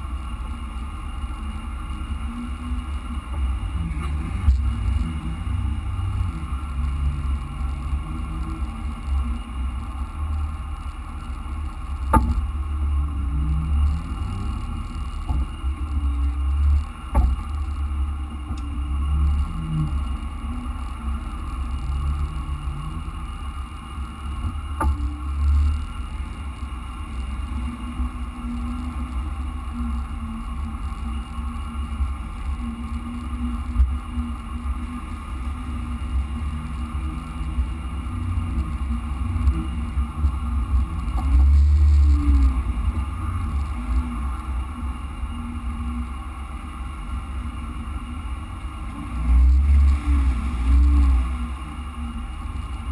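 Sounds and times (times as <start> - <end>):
vehicle engine rumble: 0.0 - 52.9.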